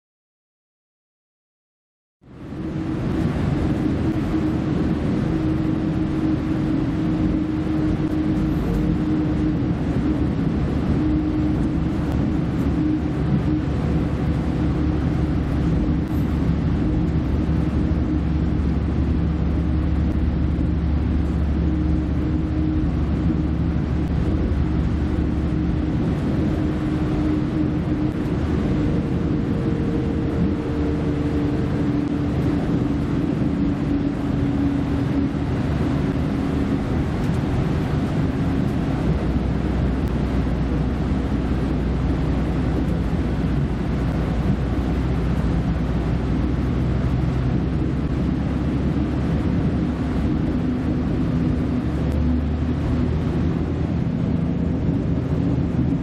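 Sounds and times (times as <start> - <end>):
deep low hum: 2.2 - 56.0
train diesel engine rumble: 2.2 - 56.0.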